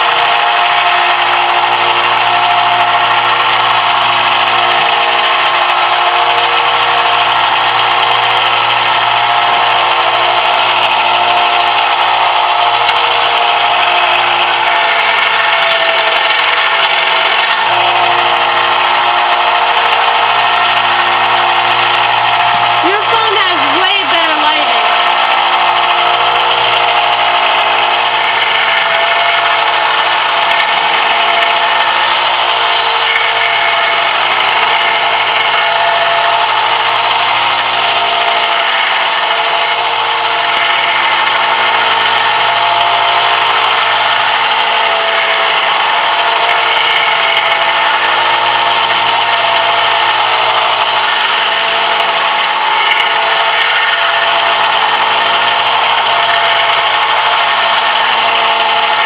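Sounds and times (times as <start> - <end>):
power tool motor hum: 0.0 - 59.0.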